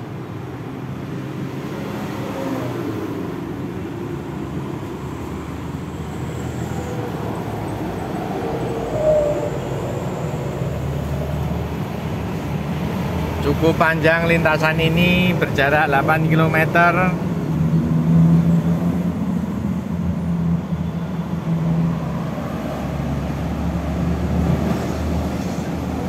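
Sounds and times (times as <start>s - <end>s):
road noise: 0.0s - 26.0s.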